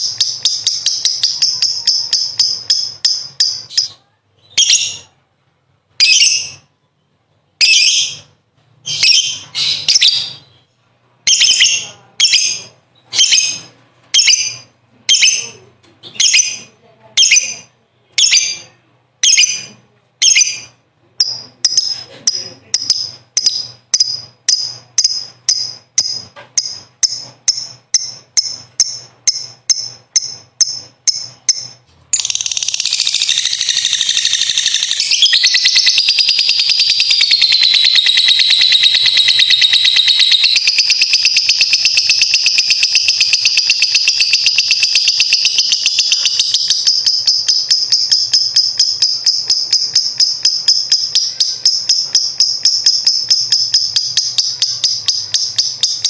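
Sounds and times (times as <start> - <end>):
lovebird chirping and trilling: 0.0 - 5.2, 5.9 - 6.7, 7.6 - 56.0.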